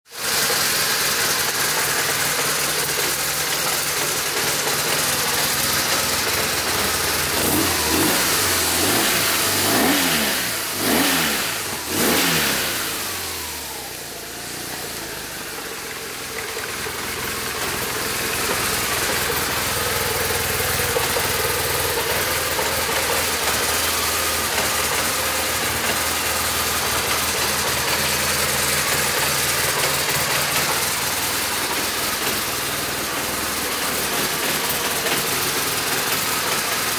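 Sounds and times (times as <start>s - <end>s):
motorcycle engine idling and revving: 0.1s - 36.9s.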